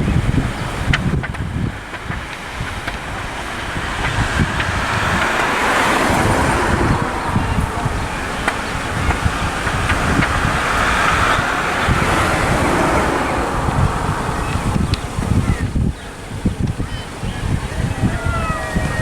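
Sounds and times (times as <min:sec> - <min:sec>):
road traffic: 0:00.0 - 0:19.0
vehicle passing: 0:00.0 - 0:19.0
wind rumble on microphone: 0:00.0 - 0:19.0.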